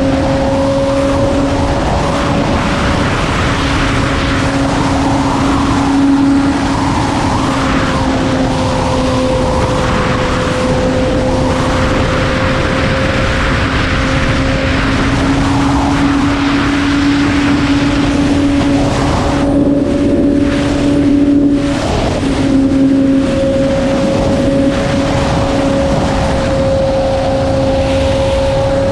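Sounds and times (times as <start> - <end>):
motorcycle engine at high revs: 0.0 - 28.9
rushing wind: 0.0 - 28.9.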